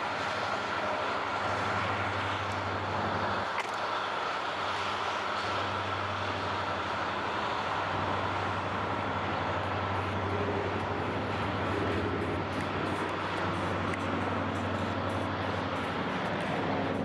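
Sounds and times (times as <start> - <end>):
engine drone with whine: 0.0 - 17.0.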